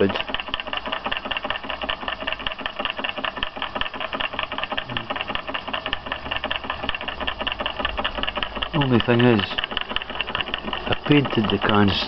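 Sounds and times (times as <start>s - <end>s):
small engine mechanical clatter: 0.0s - 12.0s.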